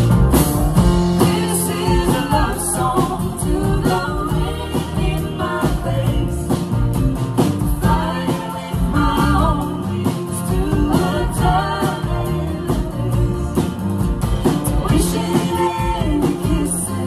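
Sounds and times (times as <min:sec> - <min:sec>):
bass: 0:00.0 - 0:17.0
steady drum beat: 0:00.0 - 0:17.0
strummed acoustic guitars: 0:00.0 - 0:17.0
female vocals: 0:01.2 - 0:17.0.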